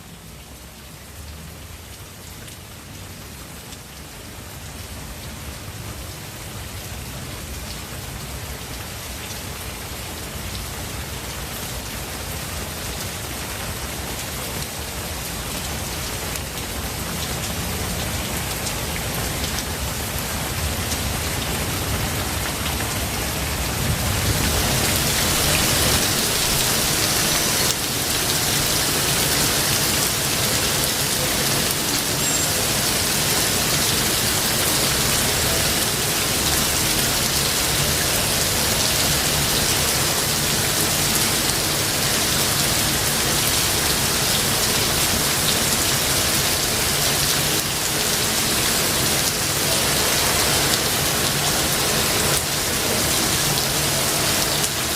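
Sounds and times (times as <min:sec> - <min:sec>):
rain falling on foliage: 0:00.0 - 0:54.9.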